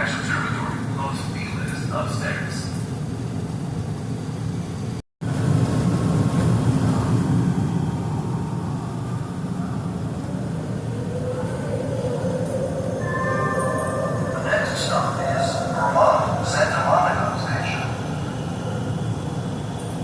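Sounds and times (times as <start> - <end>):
transit vehicle rumble: 0.0 - 20.0.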